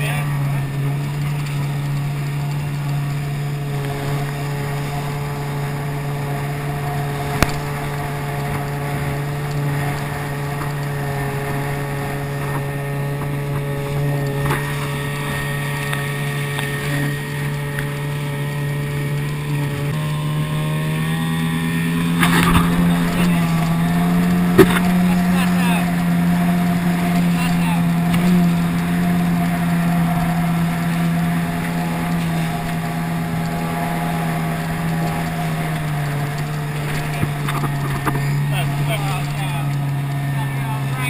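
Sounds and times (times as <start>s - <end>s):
outboard motor running: 0.0s - 41.0s
wind and water hiss: 0.0s - 41.0s.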